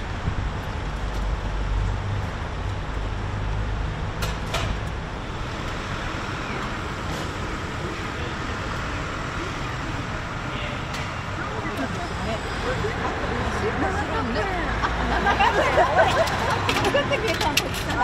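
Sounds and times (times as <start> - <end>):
city street traffic: 0.0 - 18.0
passing vehicle rumble: 0.0 - 18.0.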